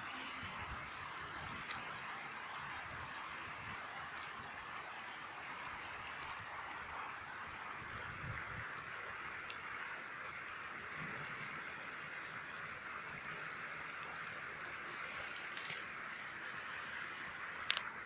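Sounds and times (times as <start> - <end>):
campfire crackling: 0.0 - 18.0
fire popping: 0.0 - 18.0
steady hiss: 0.0 - 18.0.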